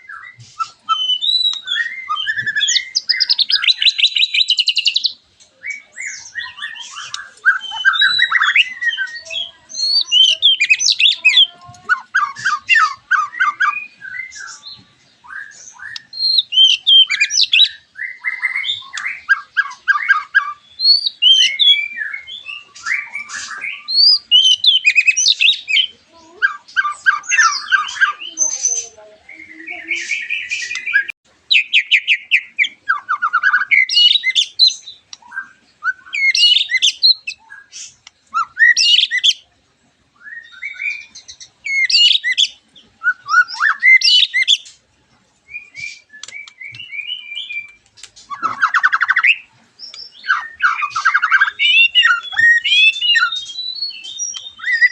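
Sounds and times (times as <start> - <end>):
songbird whistles and trills: 0.0 - 39.5, 40.1 - 44.8, 45.4 - 54.9.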